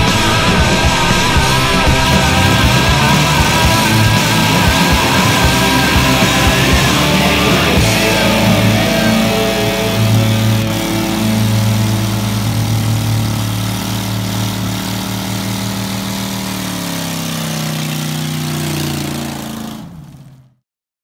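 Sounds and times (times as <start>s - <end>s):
car engine high revs: 0.0s - 20.6s
wheels spinning on dirt: 0.0s - 20.6s.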